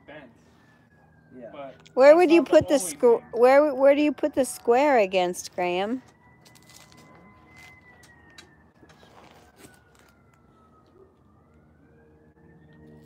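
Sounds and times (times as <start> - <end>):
faint siren wailing: 0.0 - 13.0.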